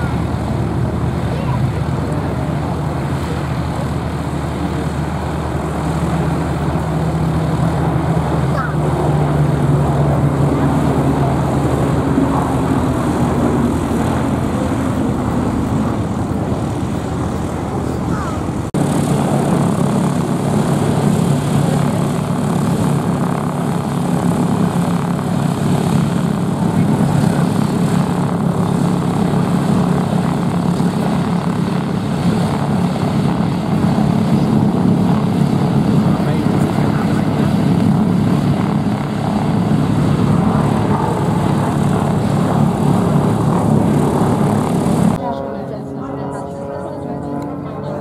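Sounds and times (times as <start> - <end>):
biplane engine droning: 0.0 - 48.0
propeller aircraft flying overhead: 0.0 - 48.0.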